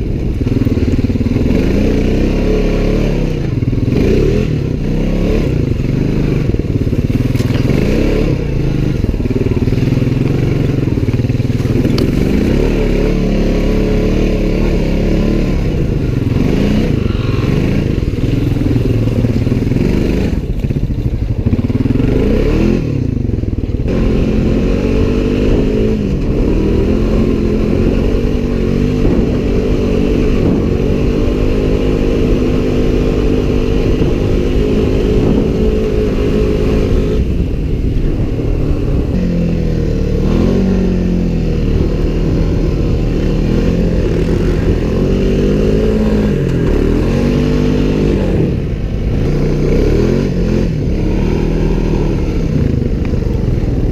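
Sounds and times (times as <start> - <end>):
off-road vehicle engine revving: 0.0 - 53.9.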